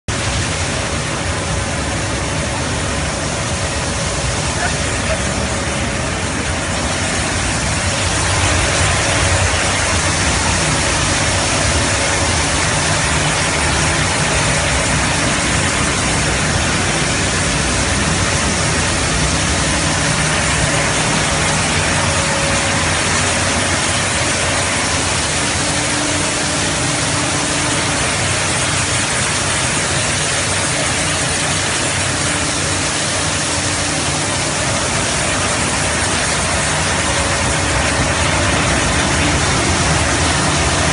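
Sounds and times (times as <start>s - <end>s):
cooking line machinery rushing: 0.1s - 40.9s.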